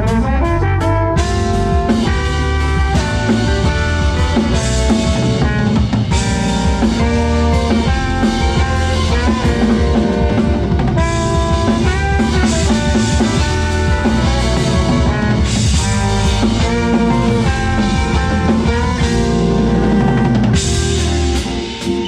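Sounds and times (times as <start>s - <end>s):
live band playing groove: 0.0s - 22.0s.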